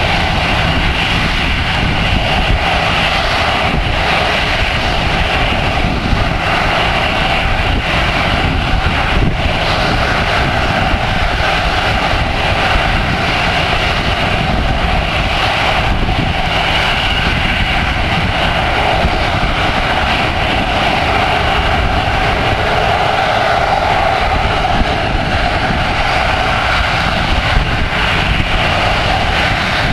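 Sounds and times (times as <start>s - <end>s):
jet engines running: 0.0s - 29.9s
low rumble: 0.0s - 29.9s.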